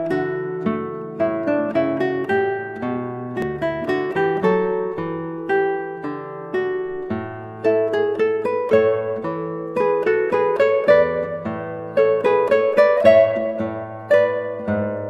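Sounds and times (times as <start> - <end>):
acoustic guitar melody: 0.0 - 15.0.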